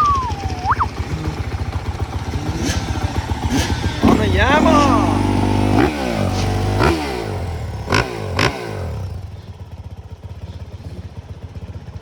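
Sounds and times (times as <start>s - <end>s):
dirt bike engines revving: 0.0s - 11.9s
engine rough putter: 0.0s - 12.0s.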